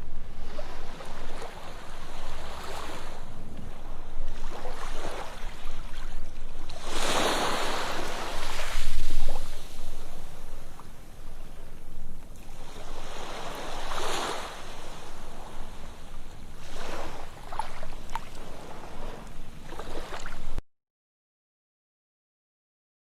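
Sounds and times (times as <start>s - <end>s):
ocean waves breaking on beach: 0.0s - 20.6s.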